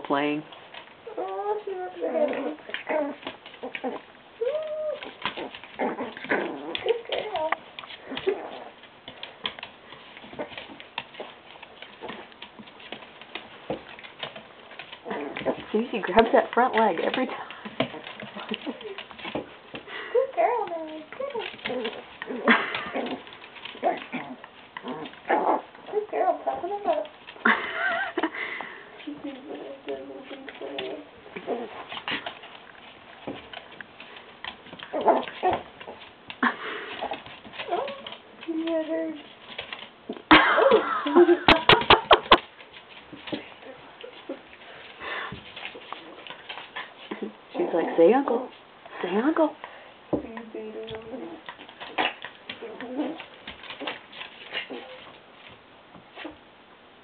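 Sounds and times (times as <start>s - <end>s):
dog claws clicking on floor: 0.1s - 56.4s.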